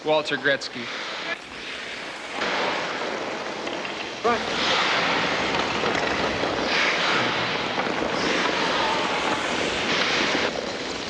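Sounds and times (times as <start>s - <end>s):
steady hiss: 0.0s - 11.0s
skates scraping on ice: 0.8s - 11.0s.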